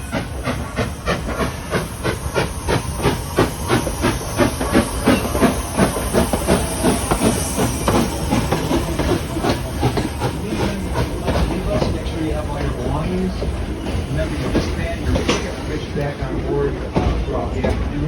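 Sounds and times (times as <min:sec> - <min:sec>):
steam hiss: 0:00.0 - 0:18.0
steam locomotive exhaust chuffing: 0:00.0 - 0:18.0.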